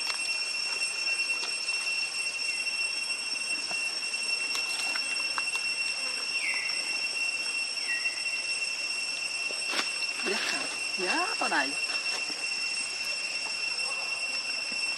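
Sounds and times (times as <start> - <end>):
high-pitched insect drone: 0.0 - 14.9.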